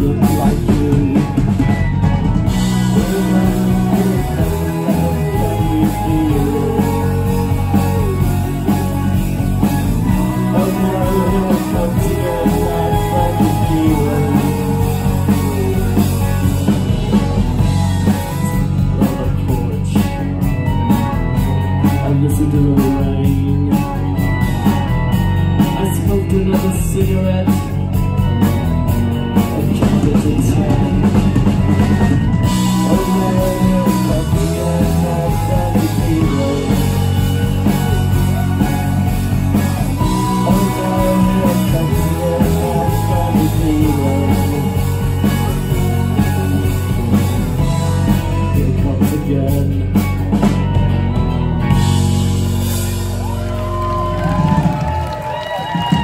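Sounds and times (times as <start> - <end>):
lead vocalist singing: 0.0 - 20.5, 21.3 - 27.8, 29.4 - 50.1
live rock band playing: 0.0 - 56.0.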